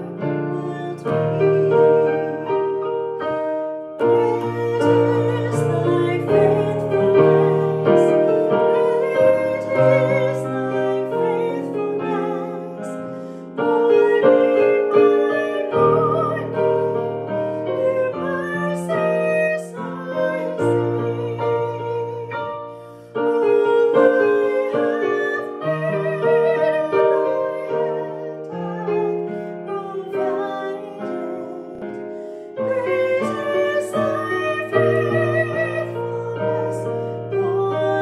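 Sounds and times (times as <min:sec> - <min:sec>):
woman singing with vibrato: 0:00.0 - 0:22.6, 0:23.2 - 0:38.0
piano accompaniment: 0:00.0 - 0:38.0.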